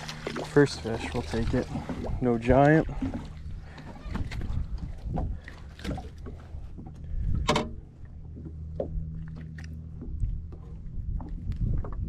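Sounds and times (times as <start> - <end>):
steady low hum: 0.0 - 12.0
water lapping against boat: 0.0 - 12.0.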